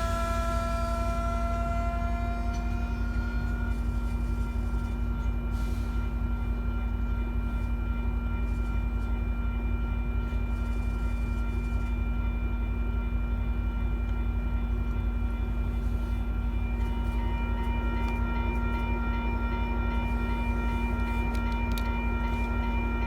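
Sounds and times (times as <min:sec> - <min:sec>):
diesel locomotive engine rumble: 0:00.0 - 0:23.0
steady hum: 0:00.0 - 0:23.0.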